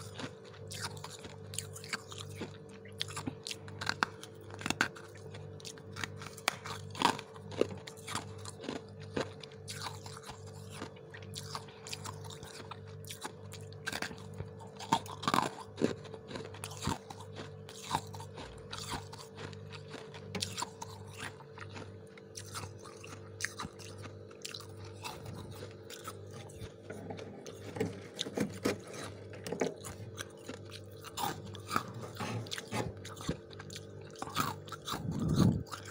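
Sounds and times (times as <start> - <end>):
frost being crunched and chewed: 0.0 - 35.9.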